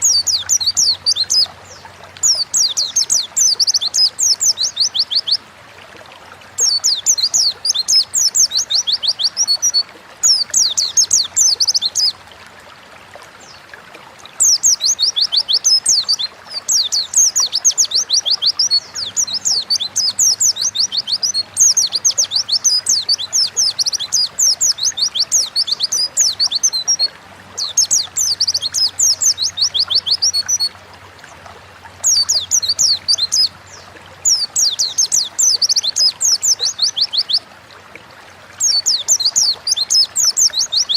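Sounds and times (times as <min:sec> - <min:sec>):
bird twittering song: 0:00.0 - 0:05.4, 0:06.6 - 0:12.2, 0:14.3 - 0:30.8, 0:32.0 - 0:37.5, 0:38.6 - 0:40.9.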